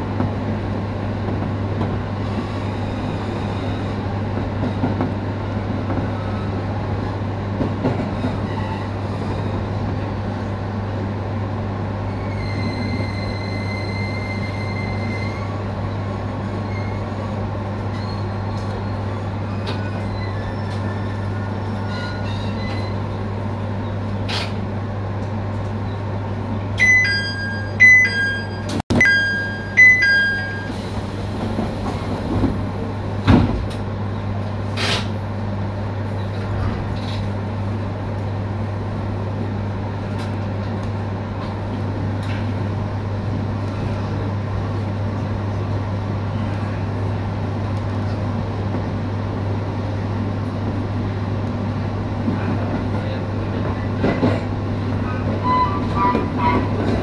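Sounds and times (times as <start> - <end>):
electric train humming: 0.0 - 57.0.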